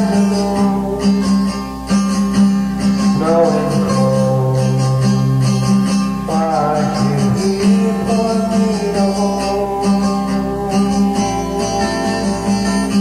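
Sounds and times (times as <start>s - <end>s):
plucked and strummed guitar: 0.0s - 13.0s.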